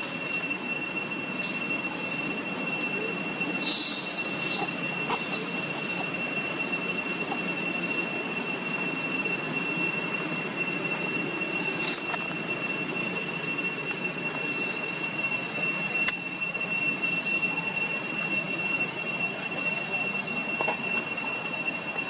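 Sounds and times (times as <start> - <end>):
insects whining: 0.0 - 22.0.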